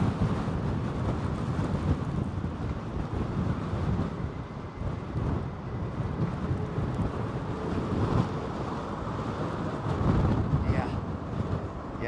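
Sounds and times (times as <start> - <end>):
gusty wind buffeting microphone: 0.0 - 12.0.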